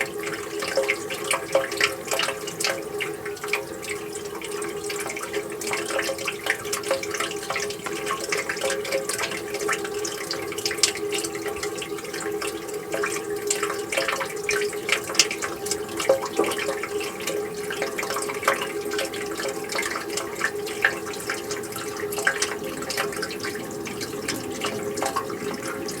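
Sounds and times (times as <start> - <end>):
small splashes and drips: 0.0 - 26.0
water running and splashing: 0.0 - 26.0.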